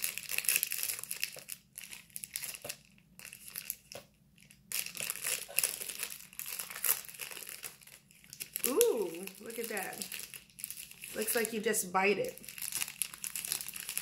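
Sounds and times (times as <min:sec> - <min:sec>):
snack wrapper crinkling: 0:00.0 - 0:14.0.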